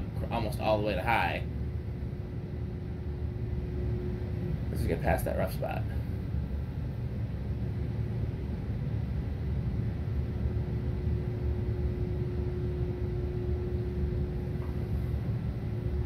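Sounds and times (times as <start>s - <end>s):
ceiling fan motor speeding up: 0.0s - 16.0s
low heater rumble: 0.0s - 16.0s
motor control hum: 0.0s - 16.0s.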